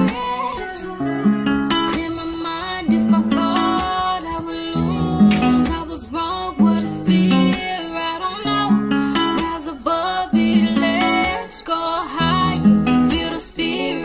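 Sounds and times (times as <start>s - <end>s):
acoustic guitar music: 0.0s - 14.0s
person singing: 0.0s - 14.0s.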